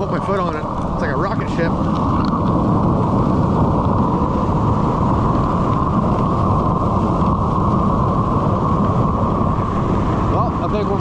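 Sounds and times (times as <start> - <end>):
fire hydrant water rushing: 0.0 - 11.0.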